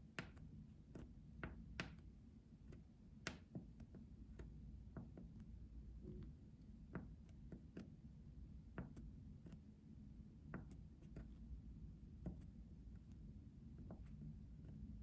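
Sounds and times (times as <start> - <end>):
faint soft taps and clicks: 0.0 - 8.0, 8.7 - 9.6, 10.4 - 15.0
low steady hum: 0.0 - 15.0.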